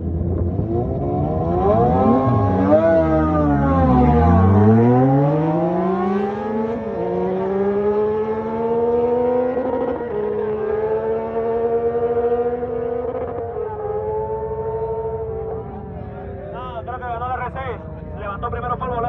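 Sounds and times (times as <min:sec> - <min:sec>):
motorcycle engine accelerating: 0:00.0 - 0:16.6.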